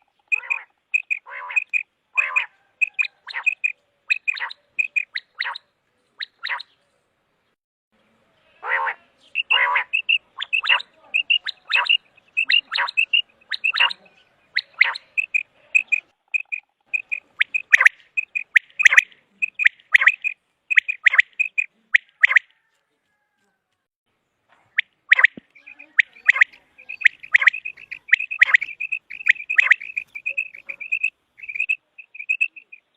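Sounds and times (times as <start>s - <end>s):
common quail calling: 0.0s - 6.8s, 8.5s - 23.5s, 24.6s - 32.9s.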